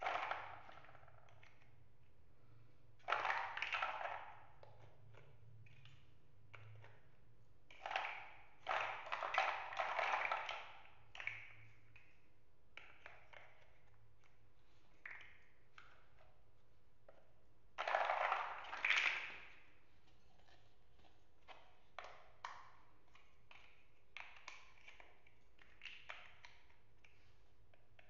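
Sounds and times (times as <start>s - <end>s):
plastic blocks clacking: 0.0s - 1.8s, 3.0s - 16.4s, 17.8s - 28.0s.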